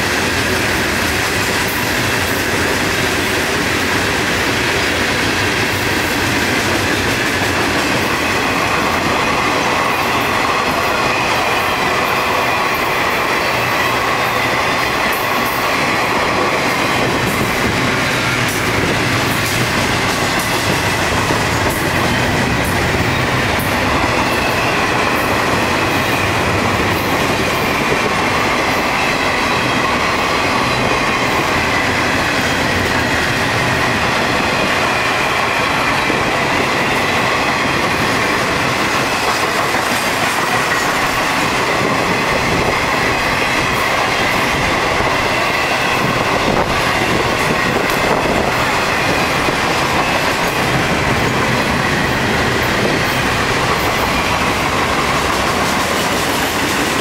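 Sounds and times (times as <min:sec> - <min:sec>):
steel train wheels rumbling on rails: 0:00.0 - 0:57.0.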